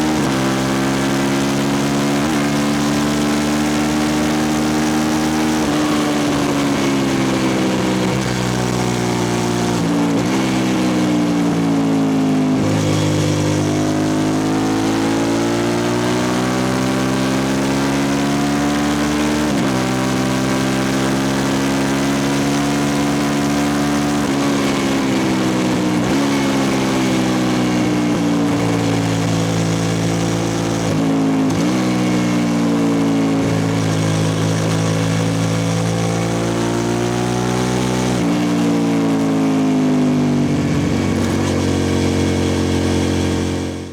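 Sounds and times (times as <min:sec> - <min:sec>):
loud motorcycle engine running: 0:00.0 - 0:43.9.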